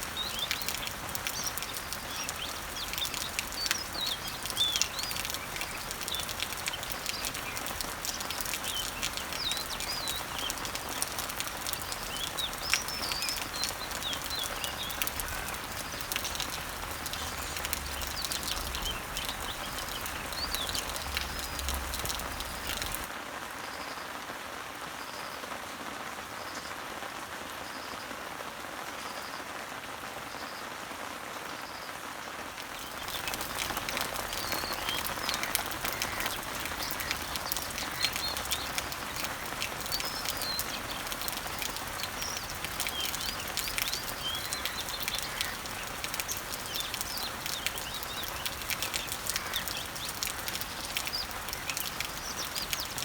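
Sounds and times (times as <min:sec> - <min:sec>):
birds chirping: 0:00.0 - 0:23.1, 0:32.6 - 0:53.0
rain pattering on leaves: 0:00.0 - 0:53.0.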